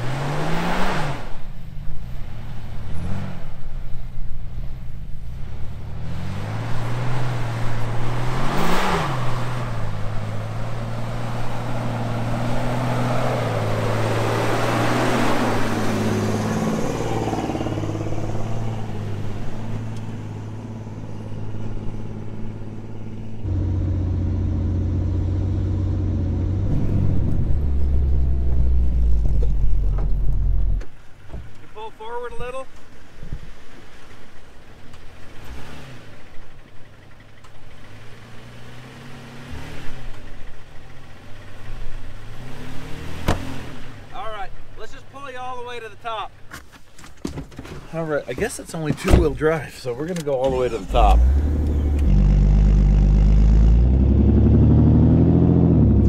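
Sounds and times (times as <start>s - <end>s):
off-road vehicle engines revving: 0.0s - 31.7s, 32.3s - 46.5s, 47.8s - 56.0s.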